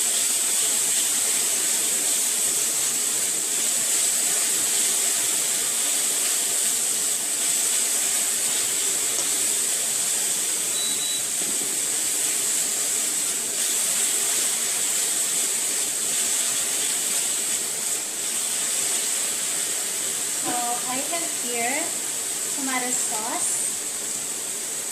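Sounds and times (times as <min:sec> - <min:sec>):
food sizzling in hot oil: 0:00.0 - 0:24.9.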